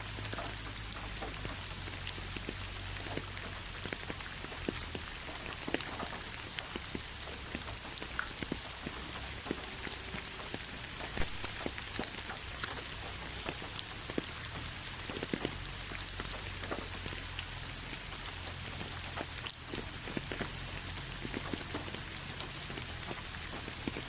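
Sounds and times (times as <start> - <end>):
rain hissing: 0.0 - 24.0
raindrops ticking on a surface: 0.0 - 24.0.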